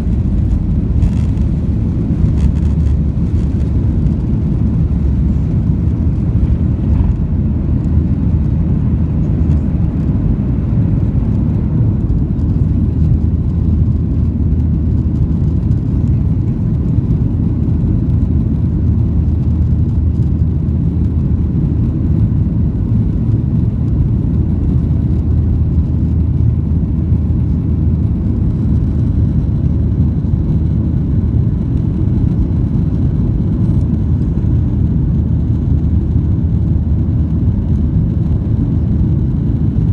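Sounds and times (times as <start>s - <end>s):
constant low hum: 0.0s - 39.9s
jet engine and airflow rumble: 0.0s - 39.9s.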